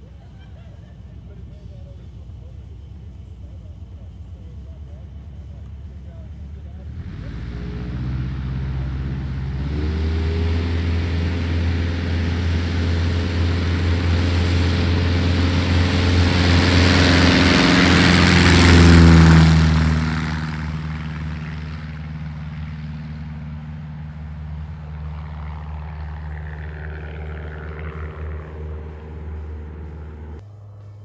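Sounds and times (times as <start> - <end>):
propeller plane engine passing: 0.0 - 31.0.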